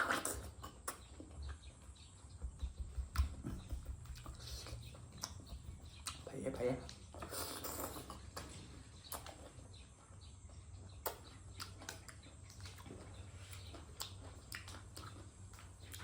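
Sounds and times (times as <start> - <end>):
person chewing and lip smacking: 0.0 - 9.6, 10.8 - 16.0.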